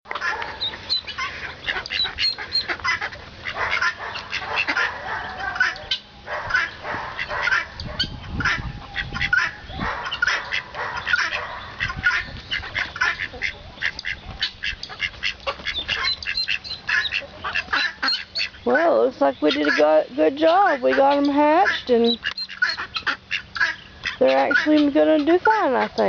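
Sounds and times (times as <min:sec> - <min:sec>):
ducklings peeping: 0:00.1 - 0:26.0
ducks quacking: 0:00.1 - 0:26.0.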